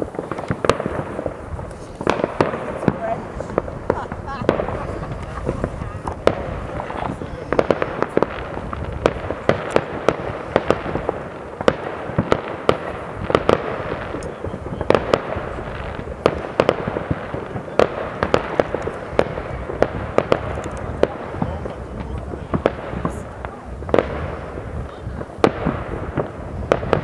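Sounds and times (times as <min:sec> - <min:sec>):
distant fireworks bangs and pops: 0:00.0 - 0:27.0
steady wash of noise: 0:00.0 - 0:27.0.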